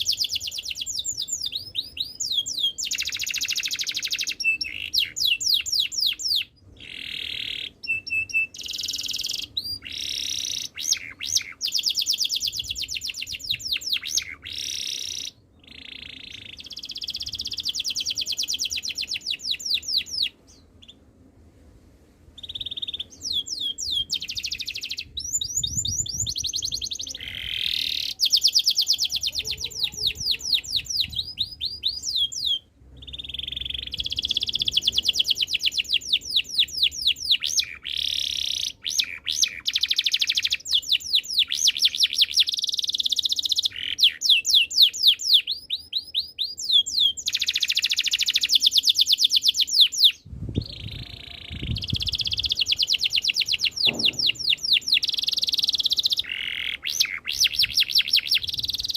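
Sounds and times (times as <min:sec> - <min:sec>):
canary singing trills: 0:00.0 - 0:21.0, 0:22.4 - 0:58.9.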